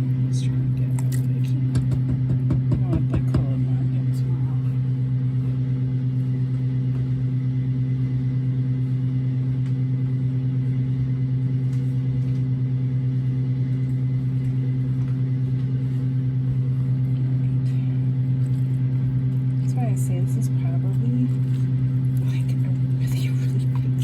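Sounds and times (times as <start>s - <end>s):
electric motor hum: 0.0s - 24.0s.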